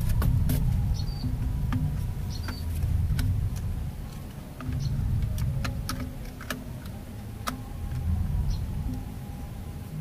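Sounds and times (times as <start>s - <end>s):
low rumble: 0.0s - 6.2s, 6.8s - 10.0s.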